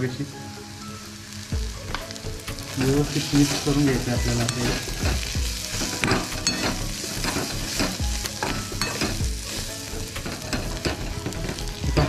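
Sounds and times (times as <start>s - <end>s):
frying sizzle: 0.0s - 12.0s
metal spoon scraping pan: 1.9s - 12.0s.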